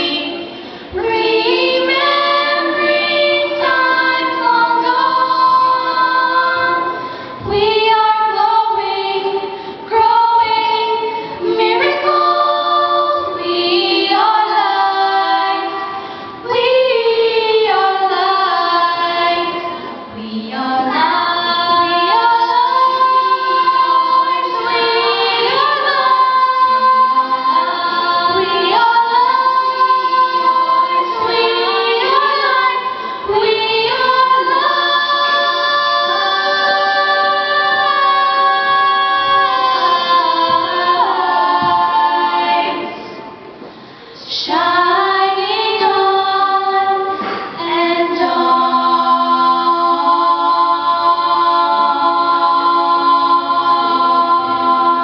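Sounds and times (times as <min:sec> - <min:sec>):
vocal ensemble singing in harmony: 0:00.0 - 0:55.0.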